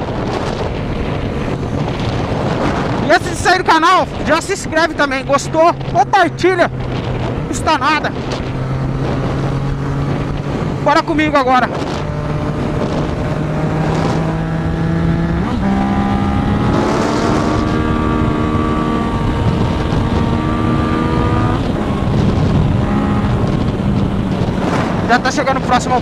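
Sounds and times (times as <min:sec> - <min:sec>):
motorcycle engine: 0:00.0 - 0:26.0
wind on microphone: 0:00.0 - 0:26.0.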